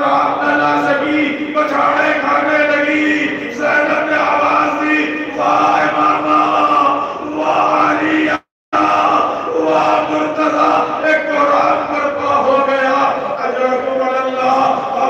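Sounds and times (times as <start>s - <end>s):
men chanting on long notes: 0.0s - 15.0s.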